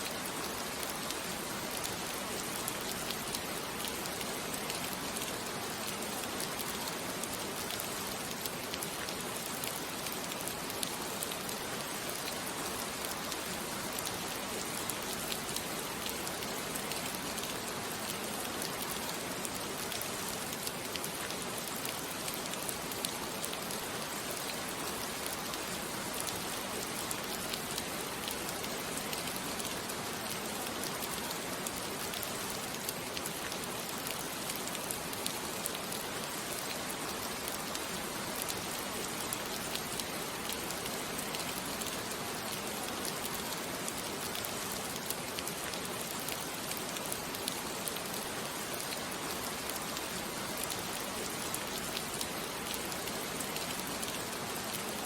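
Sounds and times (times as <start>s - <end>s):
rain drops ticking: 0.0s - 55.0s
steady rain falling: 0.0s - 55.0s.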